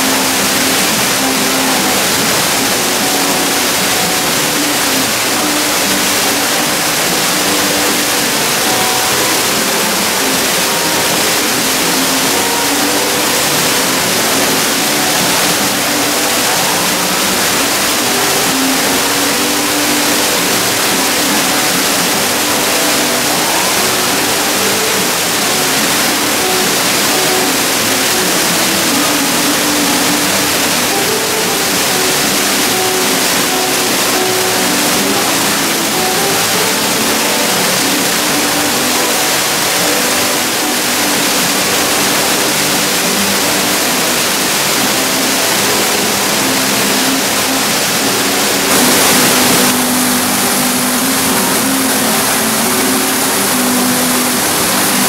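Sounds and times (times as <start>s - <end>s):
waterfall pouring into a pool: 0.0s - 55.0s.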